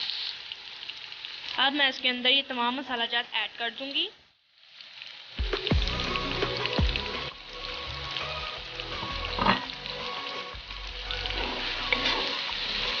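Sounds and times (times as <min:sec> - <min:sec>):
onions and tomatoes sizzling in pan: 0:00.0 - 0:13.0.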